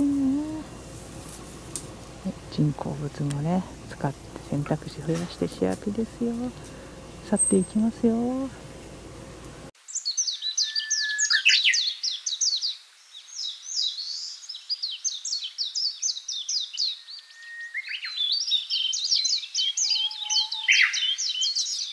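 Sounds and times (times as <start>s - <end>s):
songbirds chirping and trilling: 0.0s - 21.9s.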